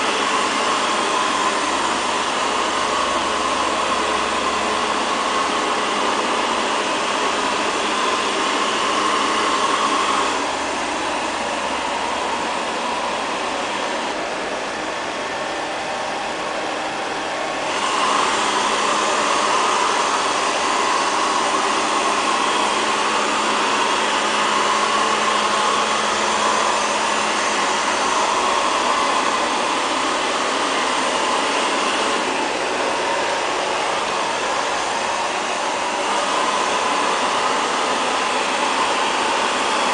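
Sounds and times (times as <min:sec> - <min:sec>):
robot vacuum cleaner running: 0:00.0 - 0:39.9.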